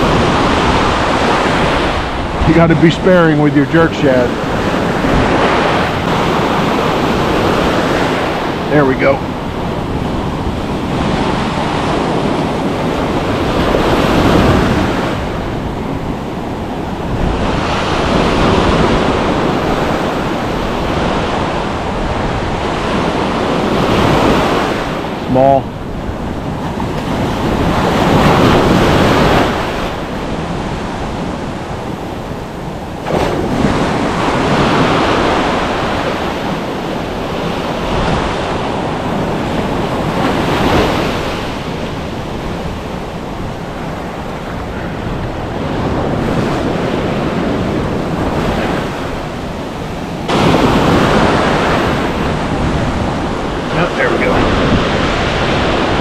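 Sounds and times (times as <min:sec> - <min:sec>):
ocean surf washing onto beach: 0:00.0 - 0:56.0
wind buffeting microphone: 0:00.0 - 0:56.0.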